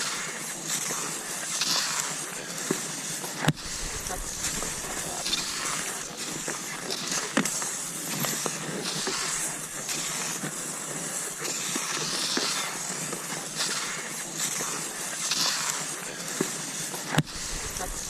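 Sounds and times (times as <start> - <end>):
skis swishing over snow: 0.0 - 18.0.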